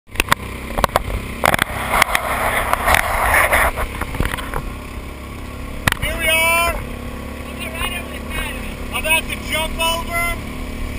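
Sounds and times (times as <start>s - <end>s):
outboard motor running: 0.1s - 10.9s.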